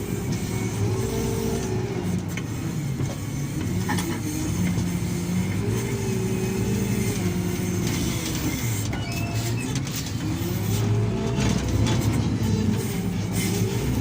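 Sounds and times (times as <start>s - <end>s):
heavy diesel engines under load: 0.0s - 14.0s.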